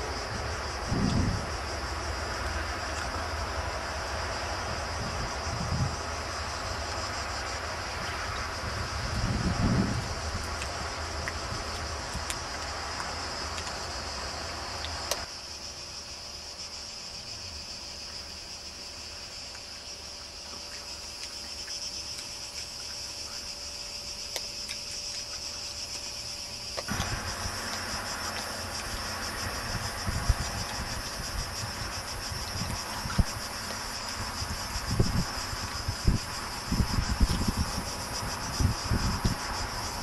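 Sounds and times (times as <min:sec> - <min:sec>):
cicadas chirring: 0:00.0 - 0:40.0.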